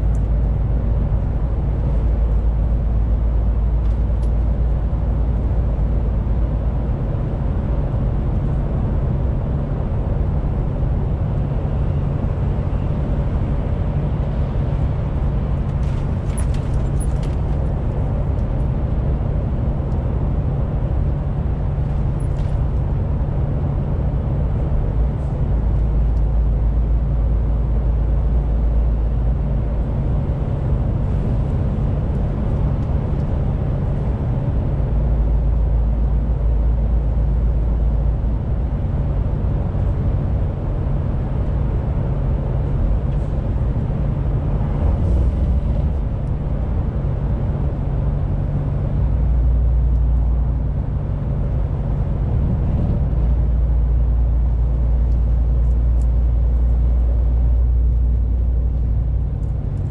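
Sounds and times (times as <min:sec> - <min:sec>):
truck diesel engine drone: 0:00.0 - 0:59.9
tyre and road noise: 0:09.2 - 0:59.9.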